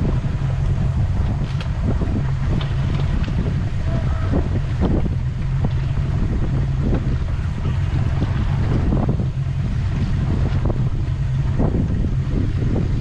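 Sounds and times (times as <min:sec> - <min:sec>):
boat engine running: 0:00.0 - 0:13.0
water slapping hull: 0:00.0 - 0:13.0
wind buffeting microphone: 0:00.0 - 0:13.0.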